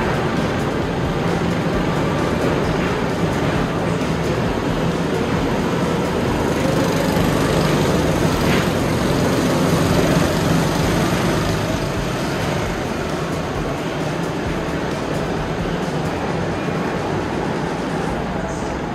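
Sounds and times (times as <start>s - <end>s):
go-kart engines droning: 0.0s - 18.9s.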